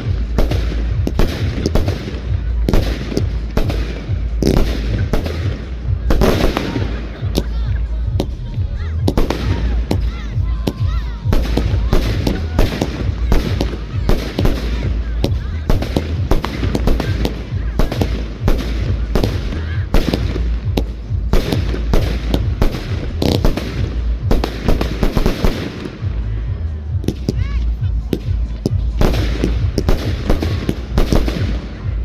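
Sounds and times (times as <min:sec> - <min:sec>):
deep rumble: 0:00.0 - 0:32.0
fireworks bangs and crackles: 0:00.0 - 0:32.0.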